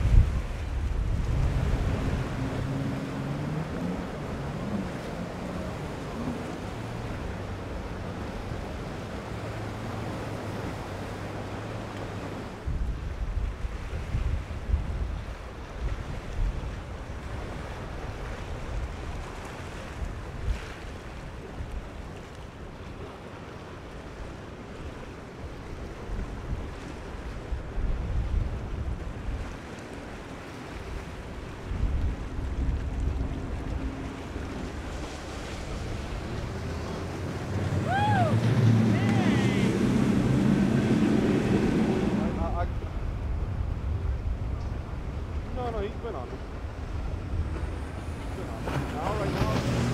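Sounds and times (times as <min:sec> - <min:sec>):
wind buffeting microphone: 0:00.0 - 0:22.8, 0:25.5 - 0:49.9
outboard motors droning: 0:00.0 - 0:49.9
surf and water wash: 0:00.0 - 0:49.9.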